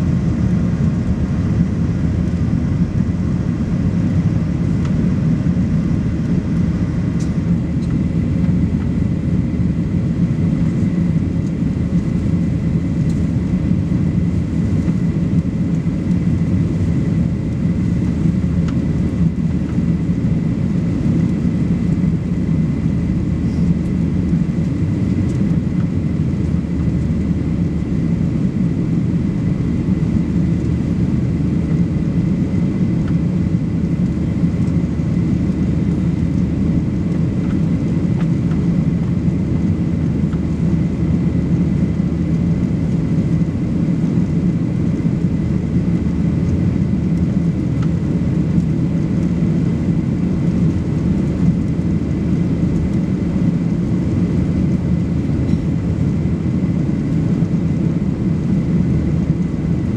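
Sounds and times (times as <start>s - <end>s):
airliner cabin engine roar: 0.0s - 59.9s.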